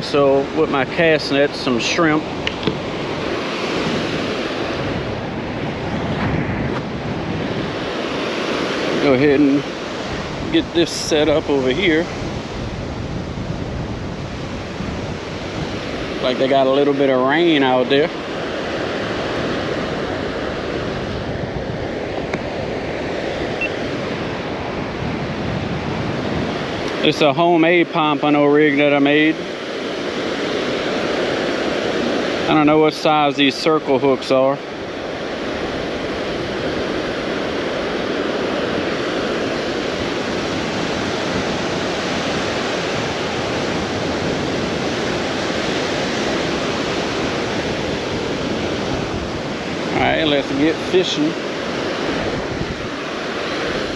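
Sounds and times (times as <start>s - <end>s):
surf breaking on a beach: 0.0s - 53.9s
wind on microphone: 0.0s - 53.9s.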